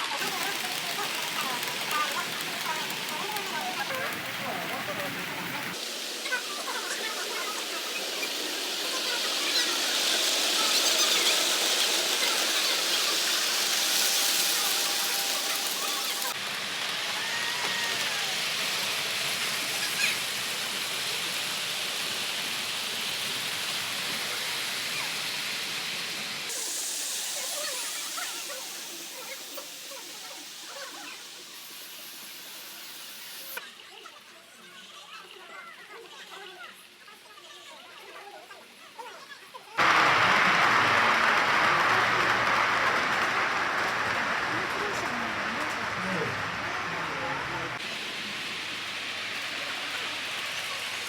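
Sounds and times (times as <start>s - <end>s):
hiss of running model trains: 0.0s - 51.0s.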